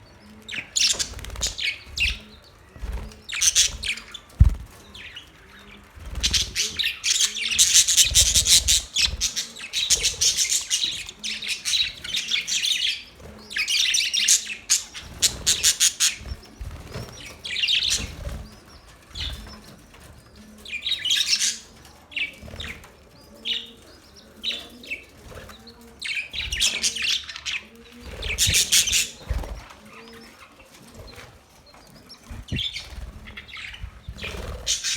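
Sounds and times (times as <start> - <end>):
budgerigars chirping and warbling: 0.0 - 34.9.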